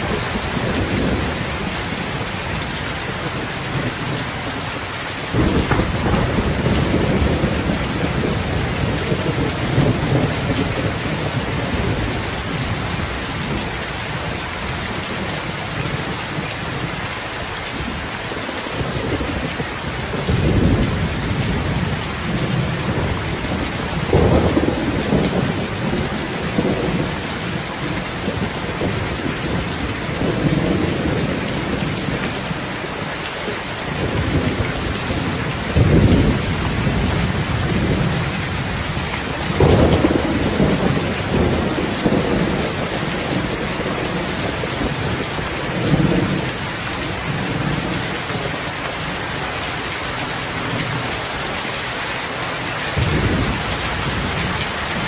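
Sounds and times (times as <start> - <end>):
thunder rumbling: 0.0 - 4.6, 5.3 - 16.9, 18.7 - 32.6, 33.9 - 49.4, 52.9 - 55.0
heavy rain hissing: 0.0 - 55.0.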